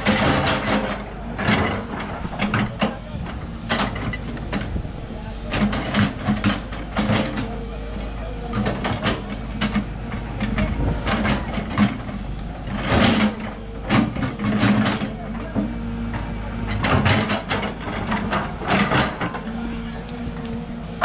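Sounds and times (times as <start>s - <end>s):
knocks and clanks: 0.0s - 7.7s, 8.4s - 21.0s
backhoe engine running: 0.0s - 21.0s.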